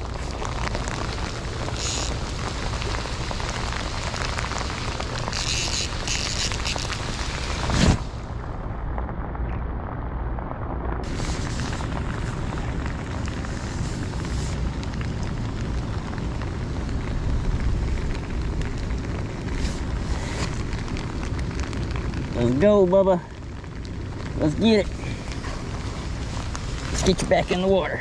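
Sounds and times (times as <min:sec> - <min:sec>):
rain and wind on microphone: 0:00.0 - 0:28.0.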